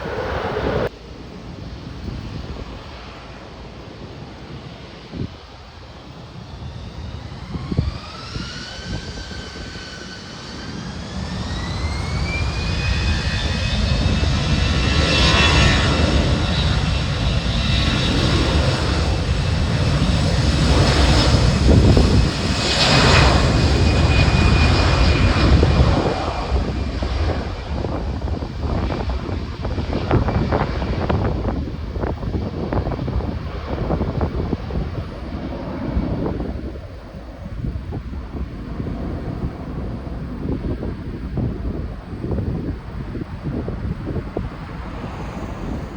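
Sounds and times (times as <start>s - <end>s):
deep jet engine rumble: 0.0s - 45.9s
jet engine whine: 0.0s - 45.9s.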